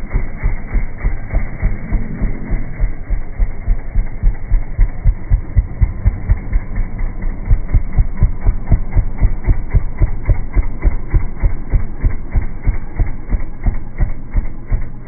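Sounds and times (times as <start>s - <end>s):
motorcycle engine pulsing exhaust: 0.0s - 15.0s.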